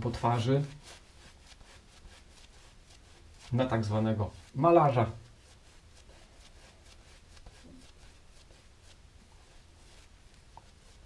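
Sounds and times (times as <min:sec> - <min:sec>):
shaving brush swishing on skin: 0:00.0 - 0:11.0.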